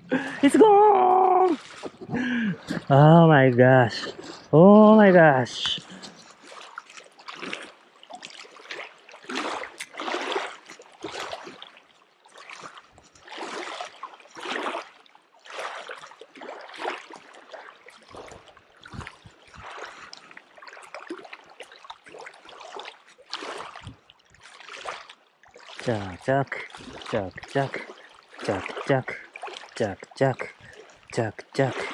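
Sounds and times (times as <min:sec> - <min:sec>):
small waves splashing on gravel: 0:00.4 - 0:04.0, 0:05.0 - 0:30.0.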